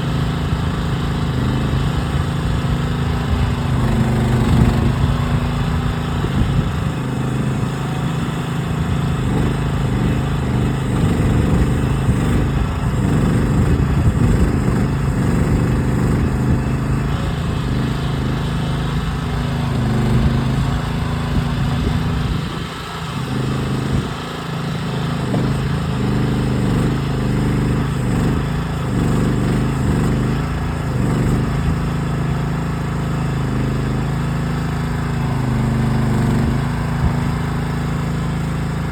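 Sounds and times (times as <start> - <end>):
excavator digging in rocky ground: 0.0 - 38.9
small gas engine running: 0.0 - 38.9.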